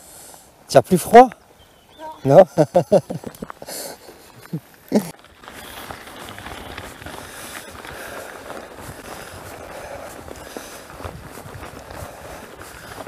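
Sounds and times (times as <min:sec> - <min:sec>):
bike tyres crunching on dirt trail: 0:00.0 - 0:13.0.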